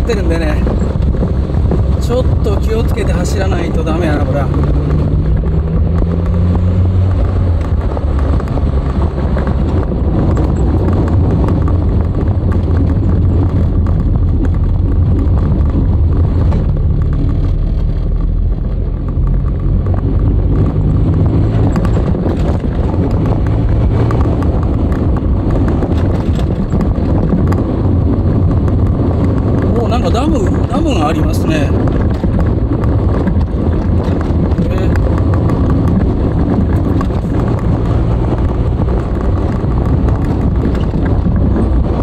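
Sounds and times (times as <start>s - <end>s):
road noise: 0.0s - 42.0s
turbocharged car engine running: 0.0s - 42.0s.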